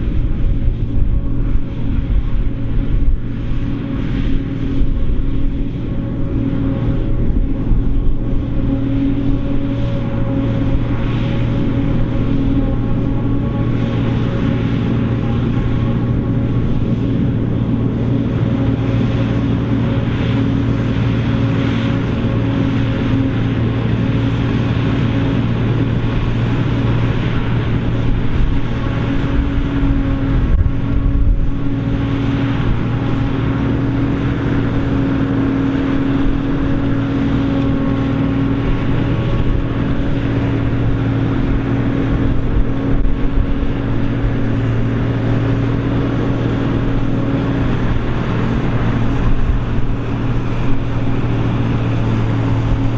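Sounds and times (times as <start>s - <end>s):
forage harvester running: 0.0s - 52.9s.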